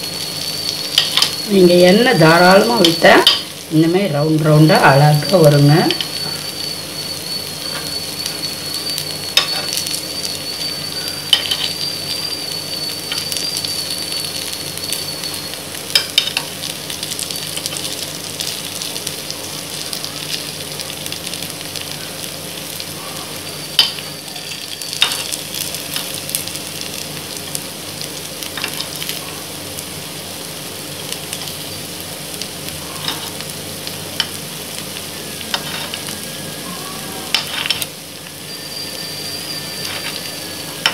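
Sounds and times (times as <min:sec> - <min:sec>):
batter sizzling in oil: 0:00.0 - 0:40.9.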